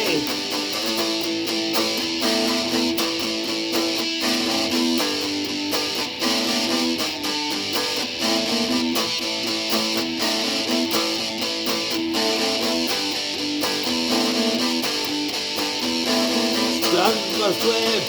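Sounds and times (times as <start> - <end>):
strummed guitar with steady beat: 0.0 - 18.0.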